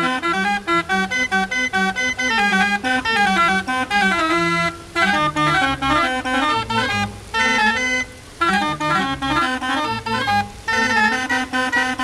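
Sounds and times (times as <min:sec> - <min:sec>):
barrel organ playing: 0:00.0 - 0:12.0.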